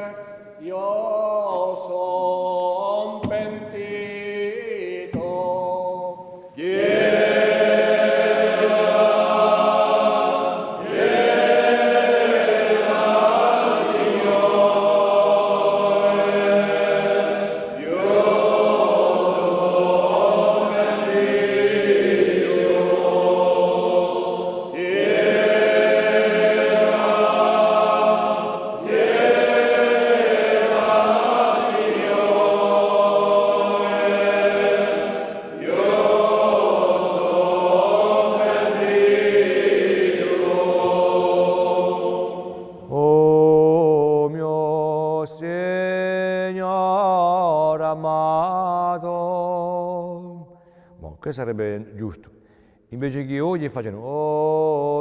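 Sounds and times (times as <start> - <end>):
choir singing a cappella: 0.0 - 50.5.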